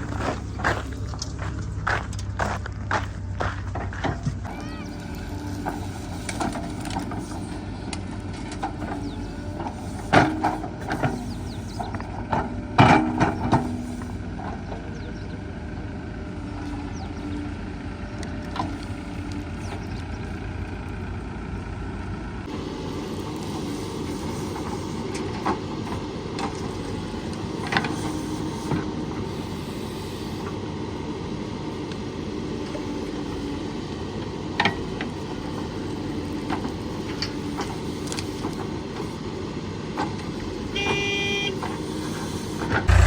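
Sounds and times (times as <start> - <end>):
diesel machinery engine running: 0.0 - 43.0.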